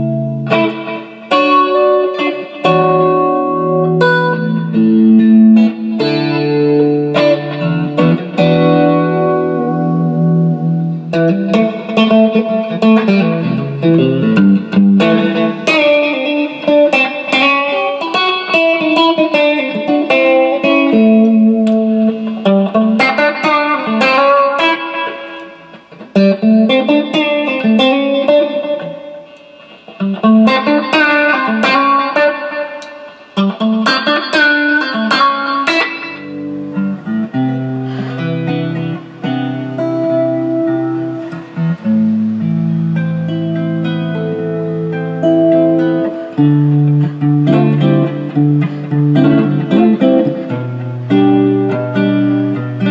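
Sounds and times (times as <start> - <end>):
electric guitar melody: 0.0 - 52.9.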